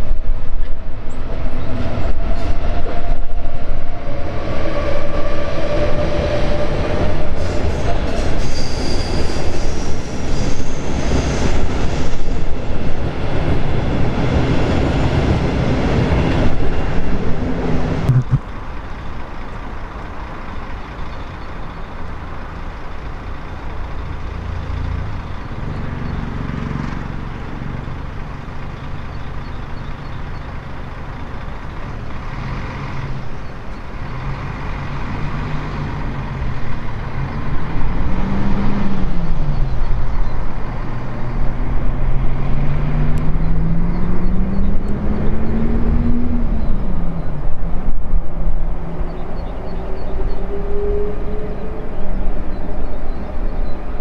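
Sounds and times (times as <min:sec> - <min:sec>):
electric locomotive drive whining: 0:00.0 - 0:54.0.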